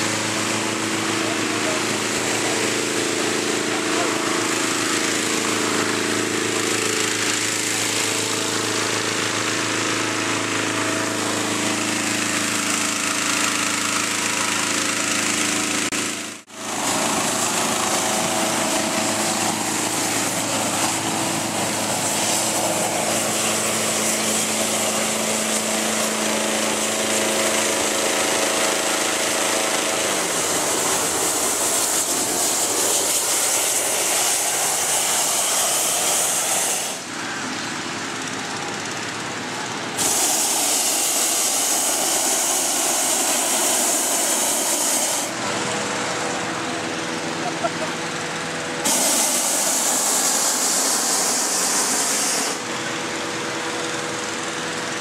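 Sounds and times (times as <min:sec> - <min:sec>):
inflator fan engine running: 0:00.0 - 0:55.0
propane burner rushing hiss: 0:00.0 - 0:55.0.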